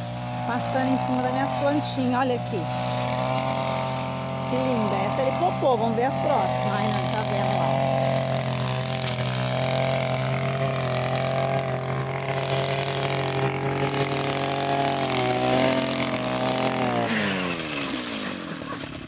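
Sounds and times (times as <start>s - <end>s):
brushcutter engine cutting grass: 0.0s - 19.0s.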